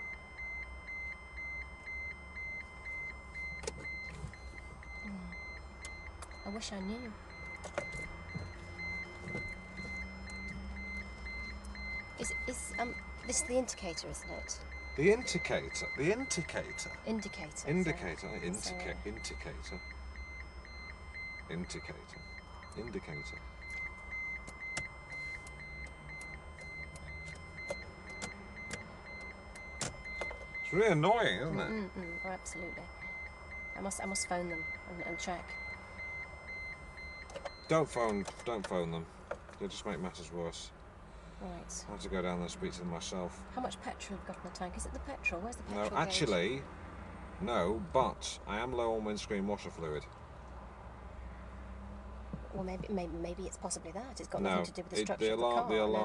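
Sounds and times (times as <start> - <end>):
dashboard warning alarm beeping: 0.0 - 50.1, 52.2 - 56.0.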